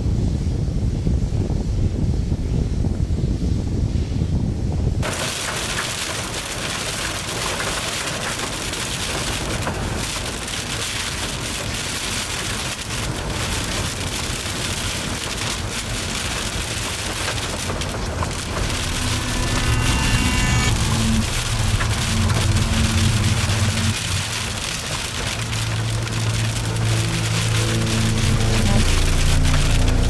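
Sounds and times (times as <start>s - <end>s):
heavy rain falling: 5.0s - 30.0s.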